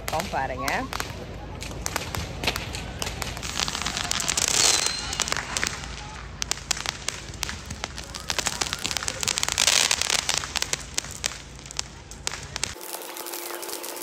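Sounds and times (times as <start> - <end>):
firecrackers popping: 0.0 - 14.0
firework hissing rush: 1.8 - 14.0.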